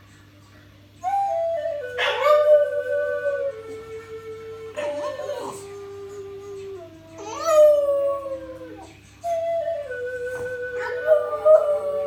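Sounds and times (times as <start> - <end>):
flute playing a held note: 1.0 - 12.0.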